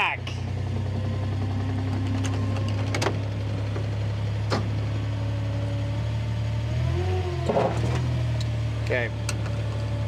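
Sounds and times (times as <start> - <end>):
utility vehicle engine idling: 0.0 - 10.0.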